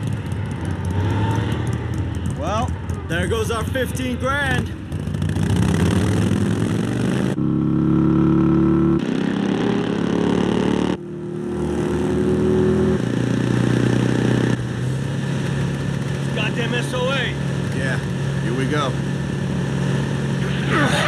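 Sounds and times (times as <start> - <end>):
motorcycle engines at speed: 0.0 - 21.0.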